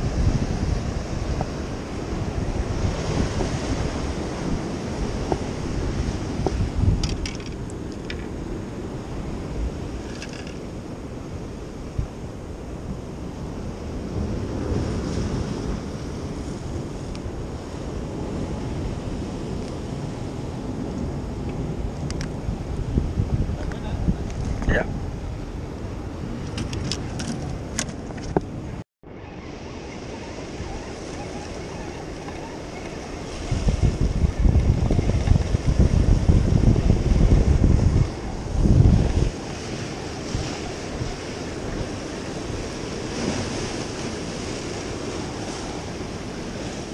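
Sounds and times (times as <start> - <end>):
surf washing against rocks: 0.0 - 27.8, 29.5 - 46.9
wind buffeting microphone: 0.0 - 28.8, 29.4 - 46.9.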